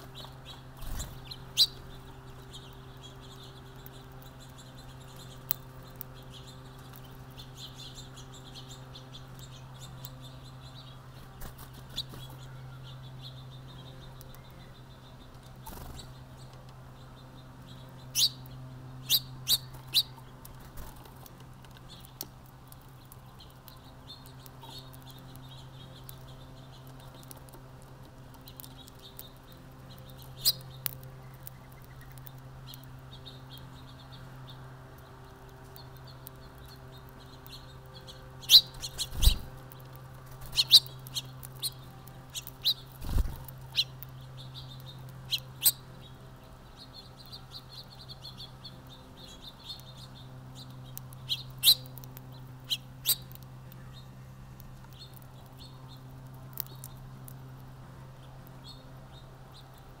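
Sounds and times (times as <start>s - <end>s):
songbirds chirping: 0.0s - 60.0s
steady low hum: 0.0s - 60.0s.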